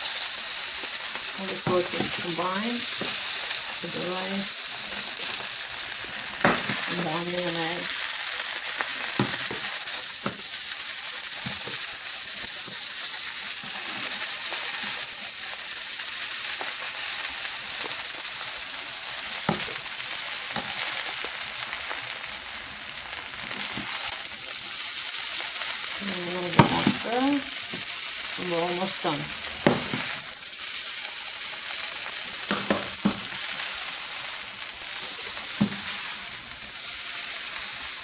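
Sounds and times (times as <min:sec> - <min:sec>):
rice sizzling in a pan: 0:00.0 - 0:38.0.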